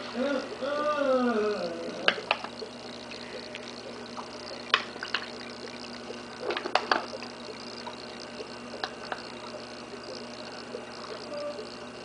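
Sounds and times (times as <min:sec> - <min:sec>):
fish popping at water surface: 0:02.0 - 0:12.0.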